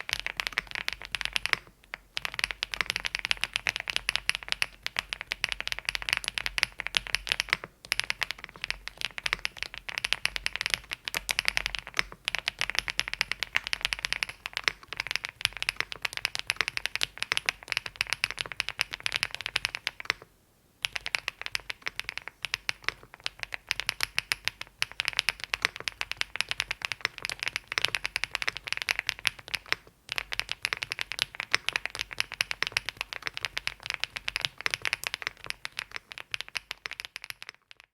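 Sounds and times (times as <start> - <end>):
mechanical keyboard typing: 0.0 - 37.8.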